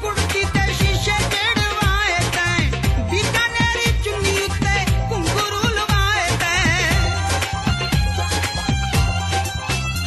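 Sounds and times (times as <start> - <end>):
dance song with drum beat: 0.0 - 10.0.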